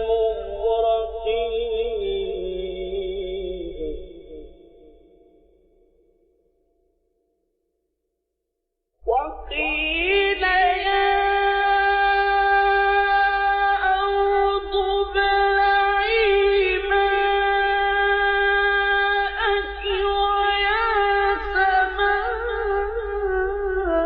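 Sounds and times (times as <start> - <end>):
man reciting melodically: 0.0 - 4.5, 9.0 - 24.0.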